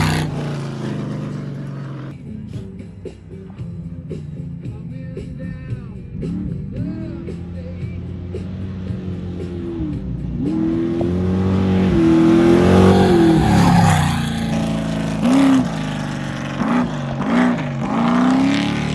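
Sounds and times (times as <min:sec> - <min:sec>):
race vehicle engine revving: 0:00.0 - 0:18.9.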